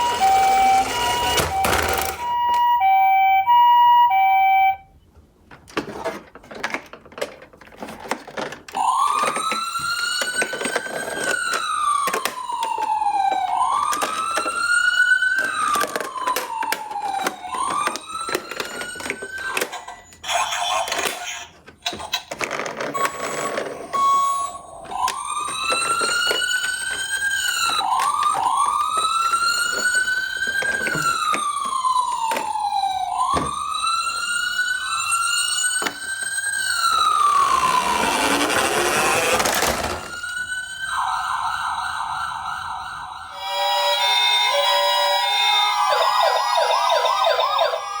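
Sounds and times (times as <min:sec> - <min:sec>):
wailing emergency siren: 0:00.0 - 0:04.9, 0:08.6 - 0:20.2, 0:23.0 - 0:48.0.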